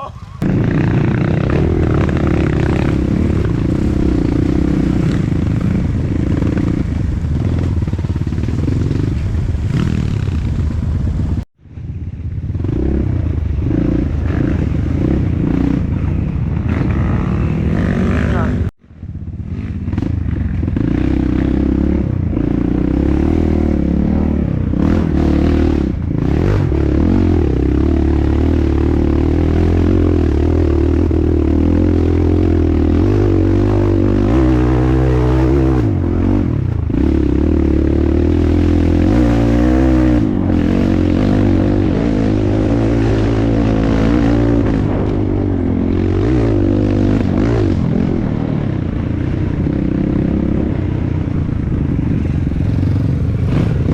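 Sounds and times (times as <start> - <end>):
dirt bike engine revving: 0.0 - 11.4, 12.5 - 18.7, 19.4 - 53.9.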